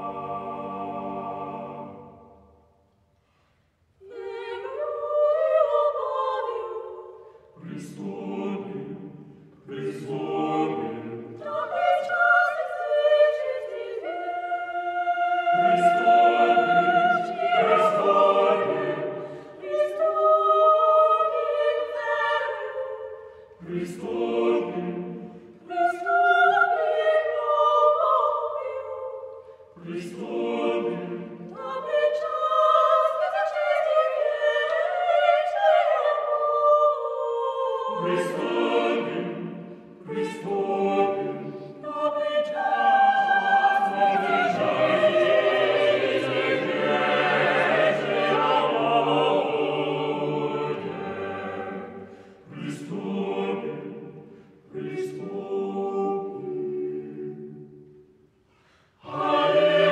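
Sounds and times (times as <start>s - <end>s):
choir singing sacred music: 0.0s - 59.9s.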